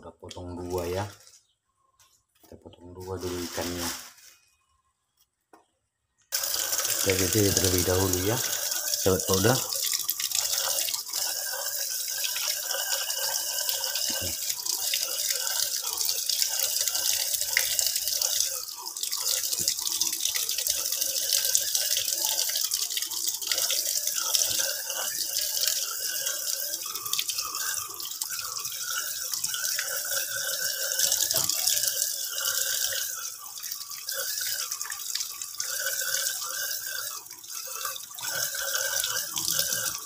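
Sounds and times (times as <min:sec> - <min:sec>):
tap water running into sink: 0:06.4 - 0:40.0.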